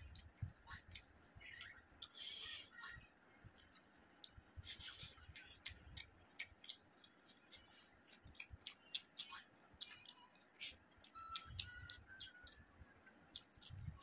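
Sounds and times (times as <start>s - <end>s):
chewing egg: 0.0s - 12.7s, 13.3s - 14.0s.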